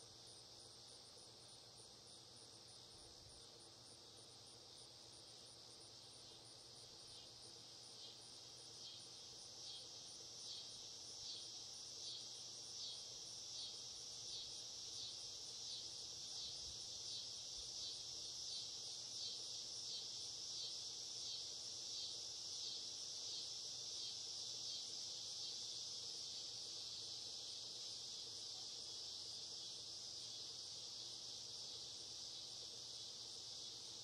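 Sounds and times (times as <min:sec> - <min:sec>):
insects chorus pulsing: 0:00.0 - 0:34.0.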